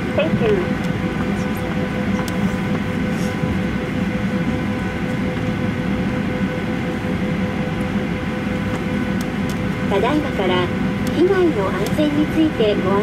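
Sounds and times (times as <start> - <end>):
aircraft cabin rumble and rushing air: 0.0 - 13.0
constant engine whine: 0.0 - 13.0.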